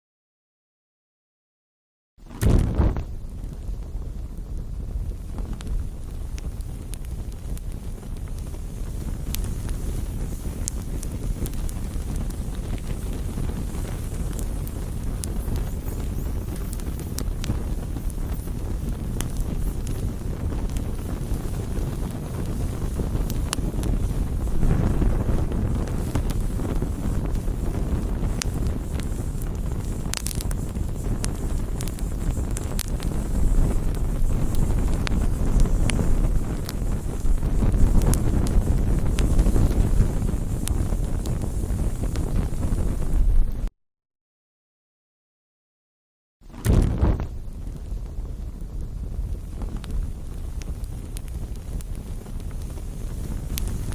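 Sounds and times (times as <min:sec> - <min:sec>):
campfire crackling and popping: 0:02.2 - 0:43.7, 0:46.5 - 0:53.9
low fire rumble: 0:02.2 - 0:43.7, 0:46.5 - 0:53.9.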